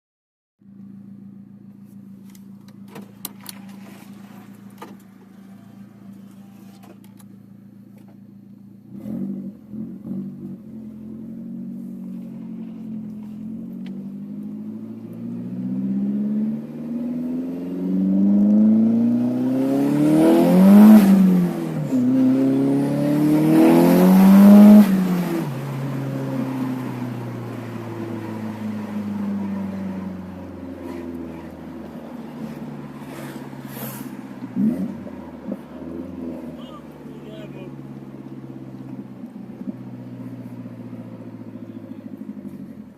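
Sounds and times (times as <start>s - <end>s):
car engine idling and revving: 0.6s - 42.9s.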